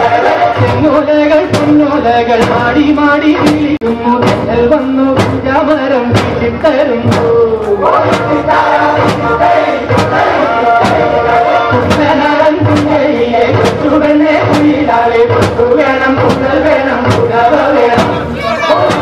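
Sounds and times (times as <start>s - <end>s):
steady percussive beat: 0.0s - 19.0s
voices singing: 0.0s - 19.0s.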